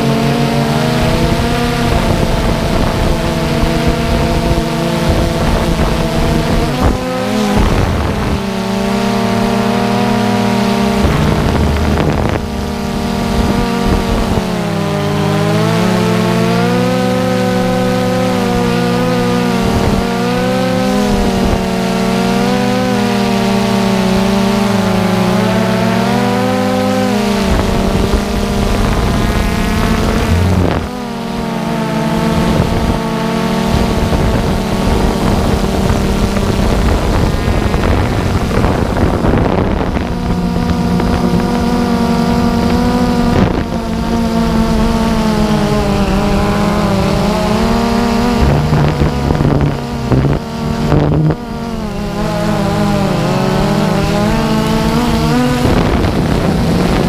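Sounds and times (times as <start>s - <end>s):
drone propellers whining: 0.0s - 57.0s
wind on microphone: 0.0s - 57.0s.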